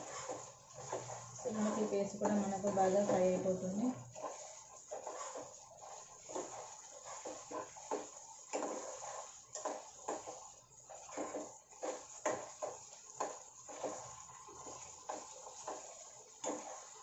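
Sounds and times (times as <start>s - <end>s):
faint sizzle: 0.0s - 17.0s
ladle scraping pan: 0.0s - 17.0s.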